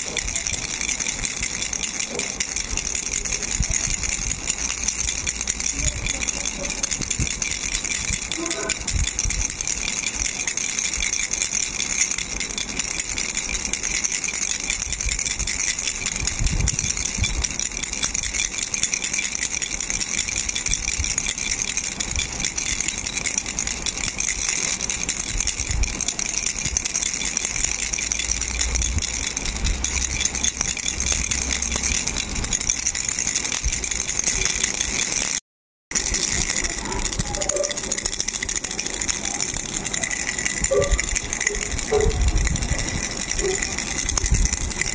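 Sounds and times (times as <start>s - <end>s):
plastic baby rattle shaking: 0.0s - 44.9s.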